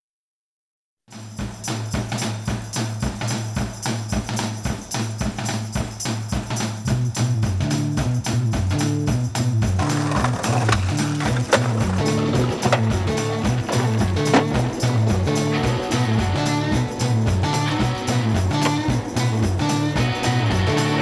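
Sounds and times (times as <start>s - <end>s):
music with fast percussion beat: 1.1s - 21.0s
stepping bass line: 1.4s - 21.0s.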